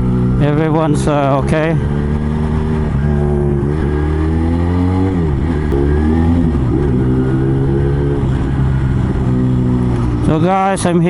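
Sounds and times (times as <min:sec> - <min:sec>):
motorcycle engine shifting gears: 0:00.0 - 0:10.9.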